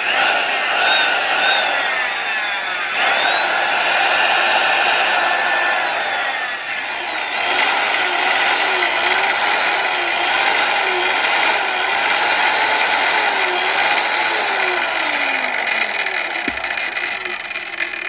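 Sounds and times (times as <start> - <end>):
circular saw motor whining: 0.0 - 18.0.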